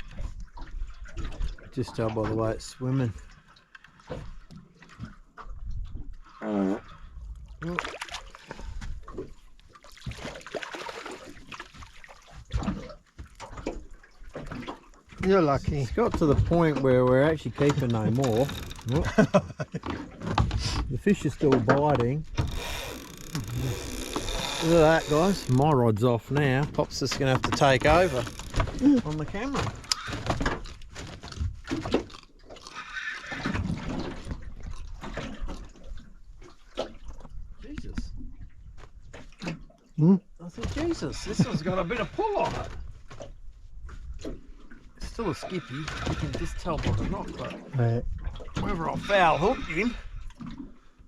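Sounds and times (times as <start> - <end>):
water sloshing and splashing: 0.0 - 51.0.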